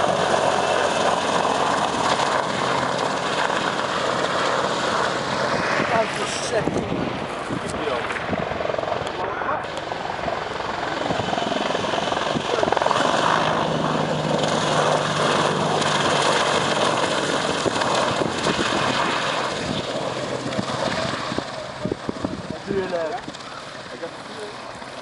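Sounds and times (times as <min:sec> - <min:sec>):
helicopter passing overhead: 0:00.0 - 0:25.0.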